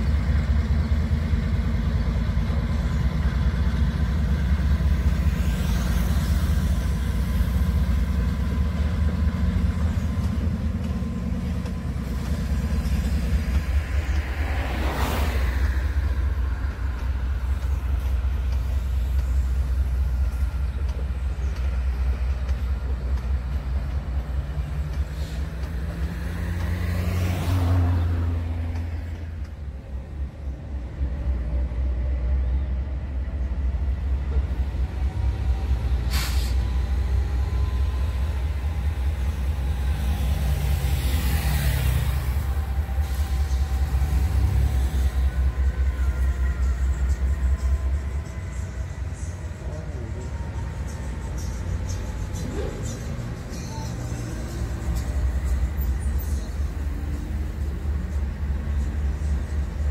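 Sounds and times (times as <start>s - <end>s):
freight wagons rumbling on track: 0.0s - 59.9s
locomotive engines running: 0.0s - 59.9s
road vehicles passing: 0.0s - 59.9s.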